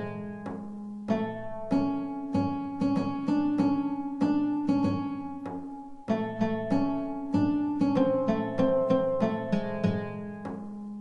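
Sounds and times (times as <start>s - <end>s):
oud plucking a slow melody: 0.0s - 11.0s.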